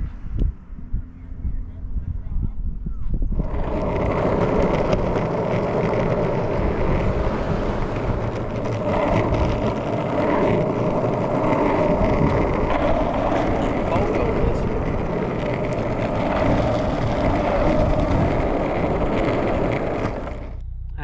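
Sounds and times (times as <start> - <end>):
vehicle rushing noise: 3.2 - 20.6.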